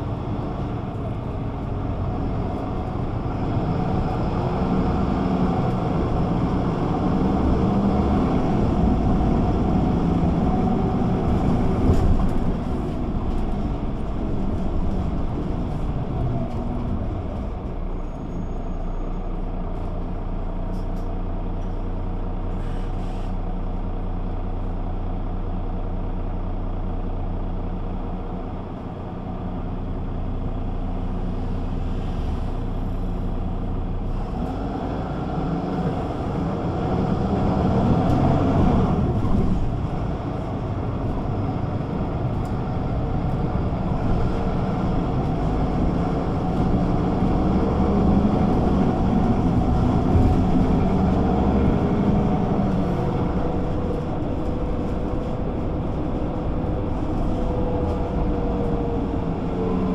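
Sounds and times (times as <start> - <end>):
bus engine idling and accelerating: 0.0 - 59.9.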